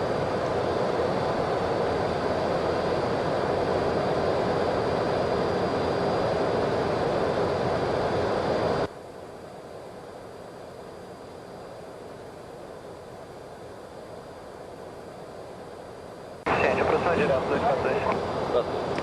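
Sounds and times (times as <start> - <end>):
cockpit airflow and engine noise: 0.0 - 19.0
thin high whine: 0.0 - 19.0.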